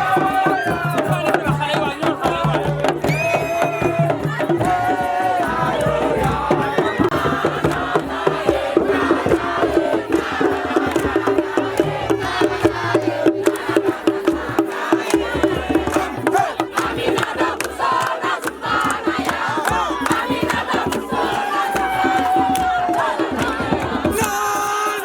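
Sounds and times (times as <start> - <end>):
group chanting and singing: 0.0 - 25.0
rhythmic percussion: 0.0 - 25.0.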